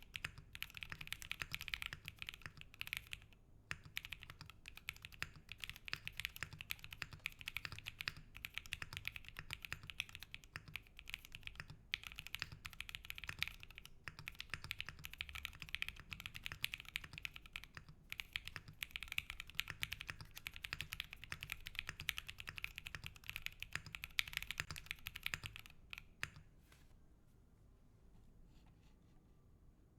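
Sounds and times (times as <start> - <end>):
mechanical keyboard typing: 0.0 - 26.5.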